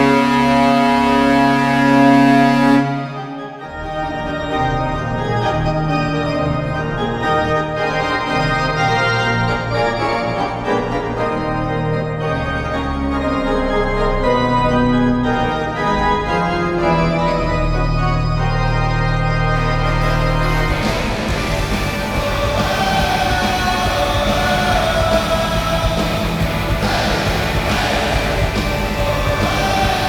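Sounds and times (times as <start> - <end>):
organ music with bass: 0.0 - 30.0.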